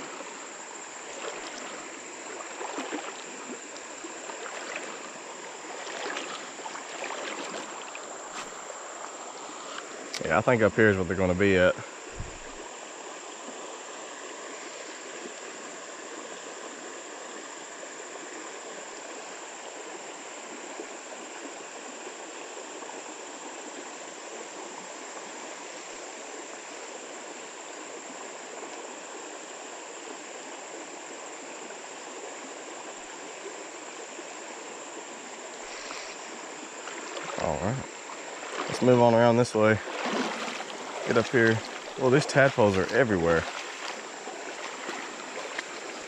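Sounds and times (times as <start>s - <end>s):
creek water running over rocks: 0.0s - 46.0s.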